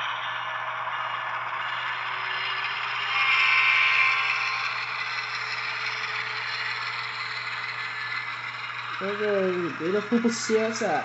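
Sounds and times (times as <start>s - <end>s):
model train motor whir: 0.0s - 11.0s
model train wheels rattling: 0.0s - 11.0s.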